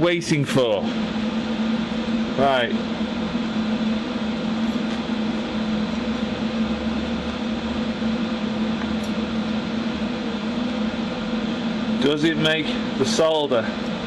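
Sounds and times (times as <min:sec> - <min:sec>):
low hum: 0:00.0 - 0:14.0
torch flame hissing: 0:00.0 - 0:14.0.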